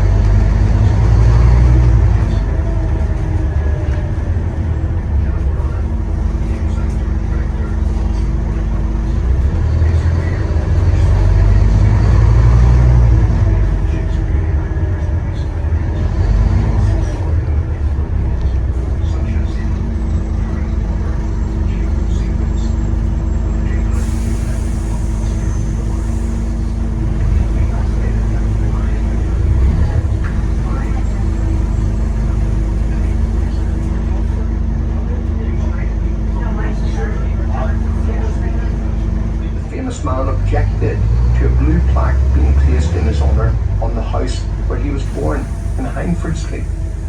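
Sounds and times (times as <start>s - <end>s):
bus diesel engine rumbling: 0.0s - 47.0s.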